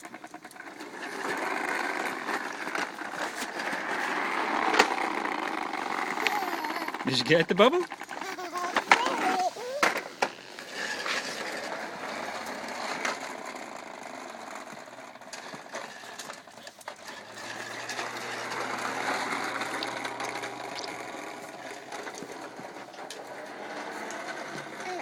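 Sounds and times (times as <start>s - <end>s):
toy motor whirring: 0.0s - 25.0s.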